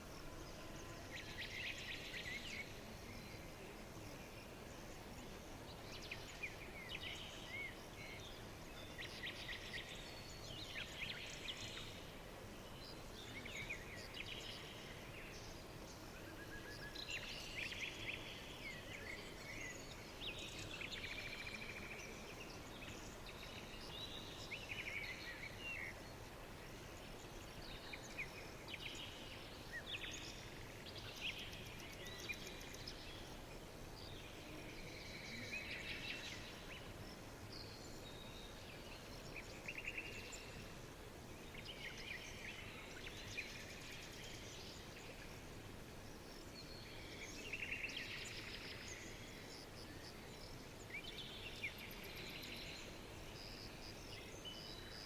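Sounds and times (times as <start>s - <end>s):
soft background hiss: 0.0s - 55.0s
songbirds chirping and trilling: 0.0s - 55.0s.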